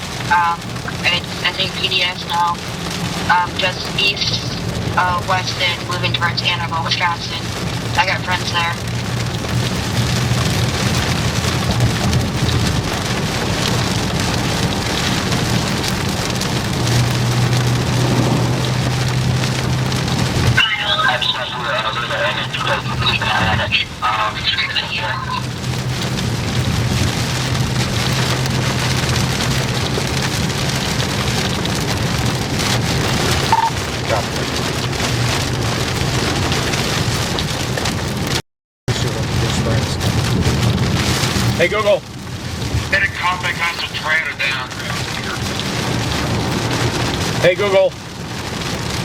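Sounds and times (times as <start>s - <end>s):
vehicle low running hum: 0.0s - 43.0s
rain beating on vehicle: 0.0s - 49.0s.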